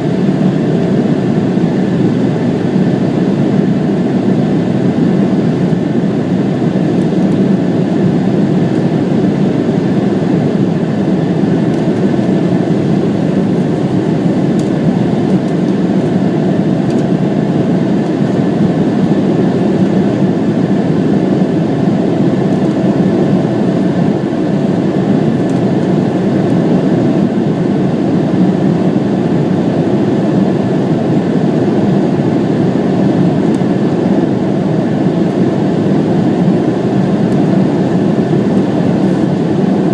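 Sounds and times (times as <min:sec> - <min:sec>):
faint steady engine whine: 0:00.0 - 0:39.9
jet engines deep rumble: 0:00.0 - 0:39.9.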